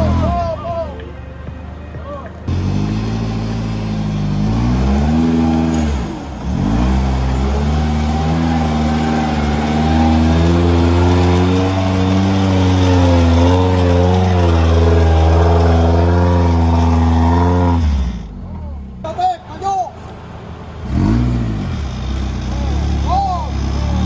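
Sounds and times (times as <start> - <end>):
off-road vehicle engine revving: 0.0 - 0.8, 2.5 - 24.0.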